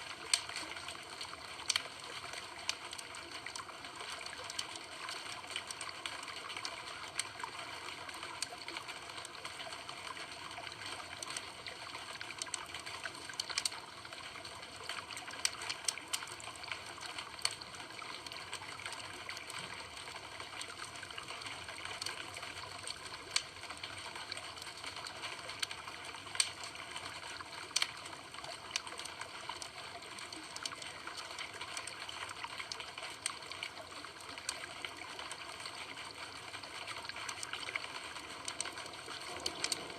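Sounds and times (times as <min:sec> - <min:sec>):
campfire crackling and popping: 0:00.1 - 0:07.4, 0:08.3 - 0:39.9.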